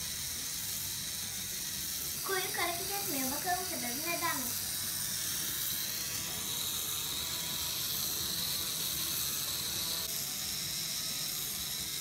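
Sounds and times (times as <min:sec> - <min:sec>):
toy robot motor and gears: 0:00.0 - 0:12.0.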